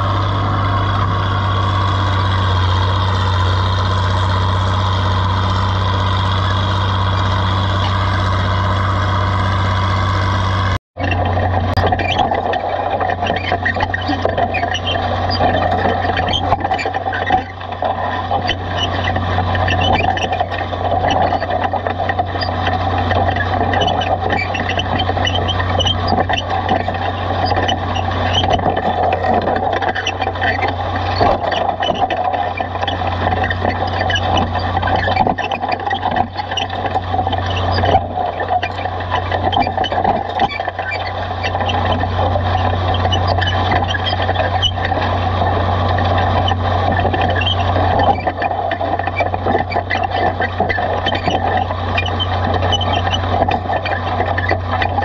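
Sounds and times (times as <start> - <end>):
tractor engine running under load: 0.0 - 55.0.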